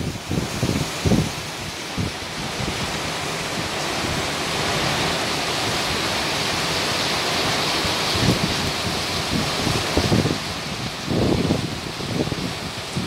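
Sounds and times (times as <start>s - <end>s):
heavy rain pouring: 0.0s - 13.0s
wind gust buffeting microphone: 0.0s - 13.0s.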